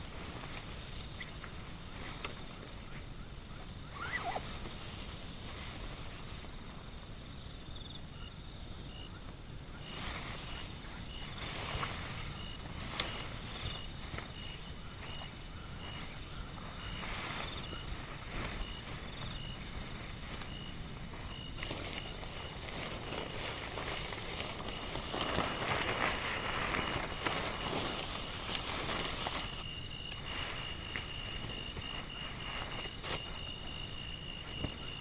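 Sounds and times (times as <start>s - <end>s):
wind: 0.0s - 35.0s.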